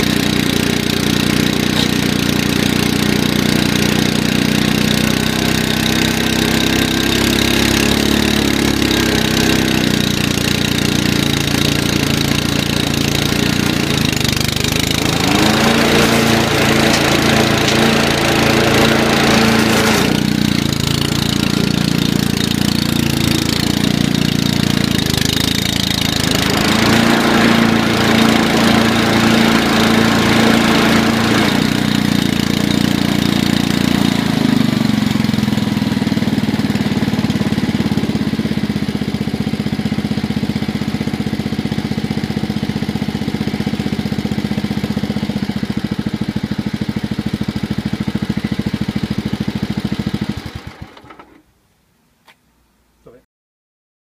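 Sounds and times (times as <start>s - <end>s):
lawn mower engine running: 0.0s - 51.5s.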